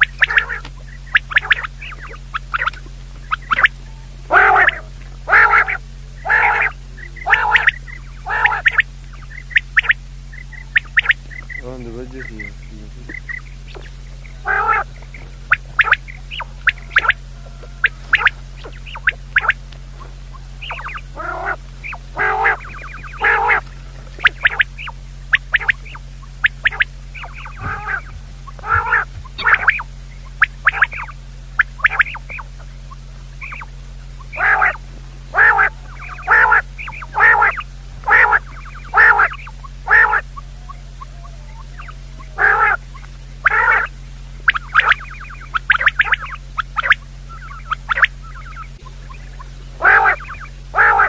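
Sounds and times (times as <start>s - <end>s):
harsh bird calls: 0.0s - 51.0s
steady low hum: 0.0s - 51.0s.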